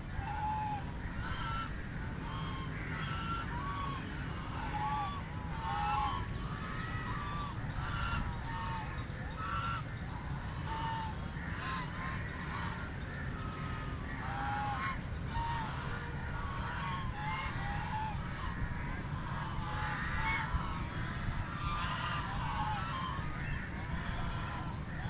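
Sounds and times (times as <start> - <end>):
ducks quacking: 0.0 - 25.0
steady low rumble: 0.0 - 25.0.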